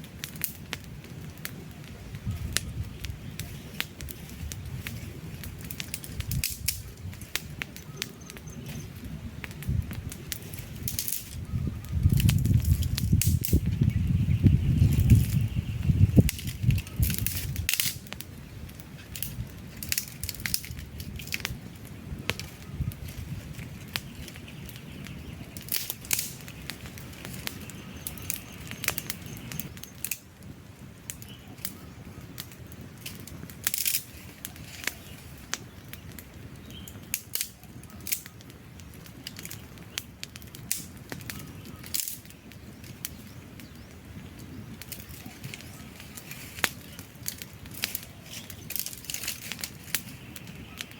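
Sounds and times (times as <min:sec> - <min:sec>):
campfire crackles and pops: 0:00.0 - 0:50.9
low rush of flame: 0:00.0 - 0:50.9.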